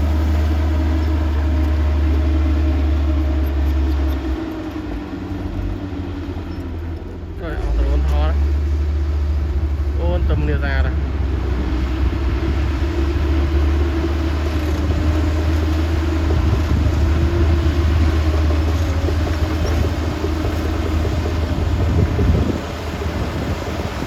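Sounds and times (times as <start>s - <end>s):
heavy diesel machinery rumble: 0.0s - 24.0s.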